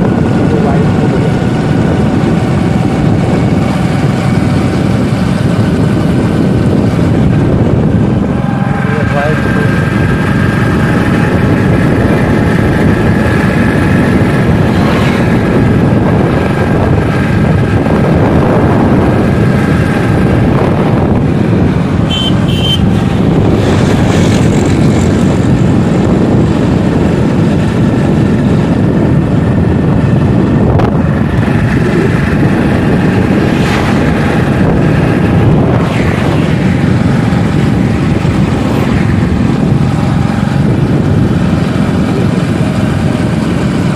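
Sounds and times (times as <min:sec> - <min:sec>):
motorcycle engine riding: 0:00.0 - 0:43.9.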